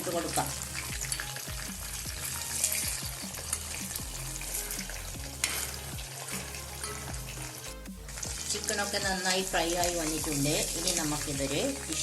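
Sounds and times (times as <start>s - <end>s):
oil sizzling while deep-frying: 0.0s - 12.0s.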